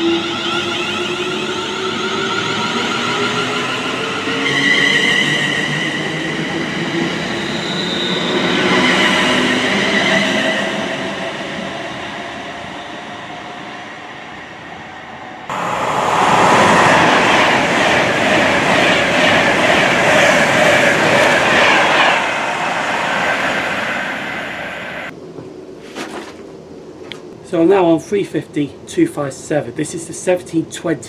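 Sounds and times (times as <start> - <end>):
train wheels rushing on rail: 0.0 - 25.1.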